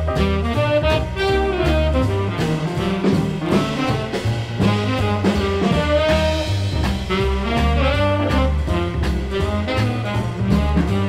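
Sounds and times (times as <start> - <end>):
swing jazz from vinyl record: 0.0 - 11.0.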